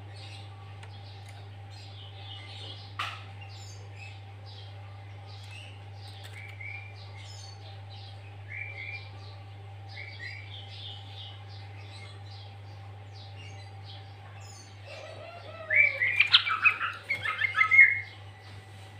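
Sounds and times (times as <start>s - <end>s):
bird chirping and trilling: 0.1s - 18.6s.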